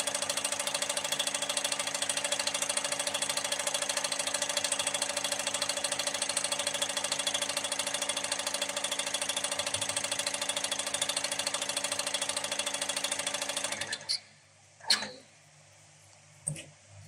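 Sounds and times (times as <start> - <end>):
rapid mechanical ticking: 0.0 - 14.1.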